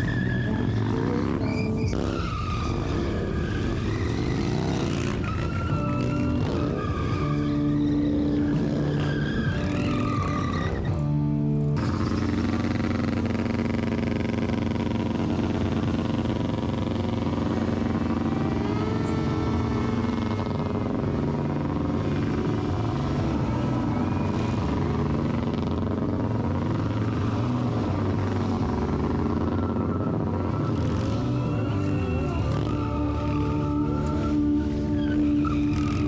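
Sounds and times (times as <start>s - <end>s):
motorcycle engines running: 0.0s - 36.0s.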